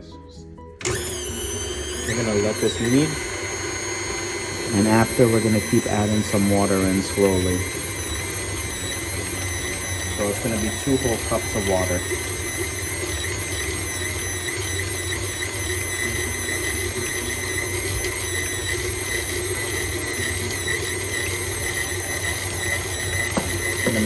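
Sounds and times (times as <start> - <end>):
stand mixer motor running: 0.8 - 24.0.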